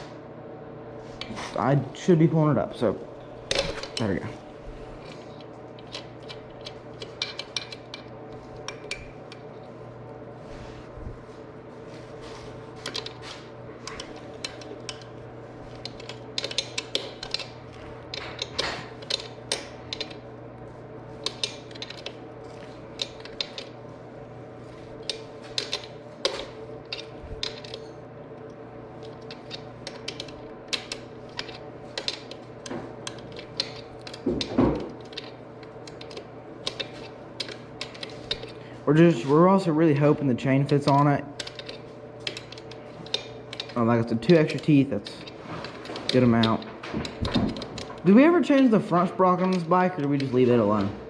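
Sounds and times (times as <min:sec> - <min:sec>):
steady hum: 0:00.0 - 0:51.0.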